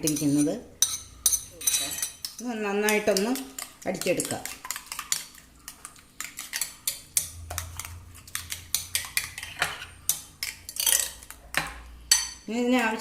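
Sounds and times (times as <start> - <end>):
utensil clinking against bowl: 0.0 - 12.4.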